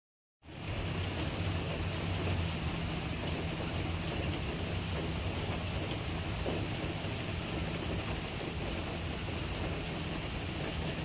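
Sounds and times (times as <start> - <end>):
steady rain hissing: 0.4 - 11.0
continuous low rumble: 0.5 - 11.0.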